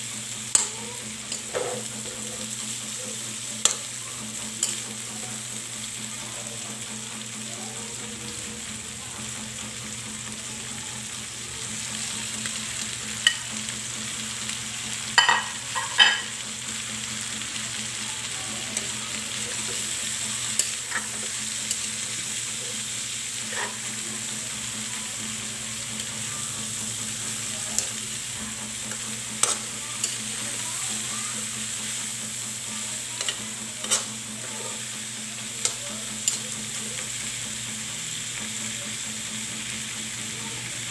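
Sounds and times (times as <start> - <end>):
meat and vegetables sizzling in pan: 0.0 - 40.9.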